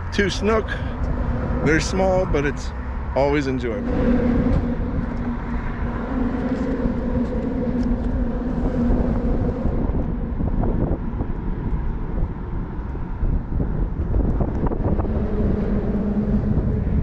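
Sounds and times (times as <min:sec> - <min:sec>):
low rumble with engine hum: 0:00.0 - 0:17.0.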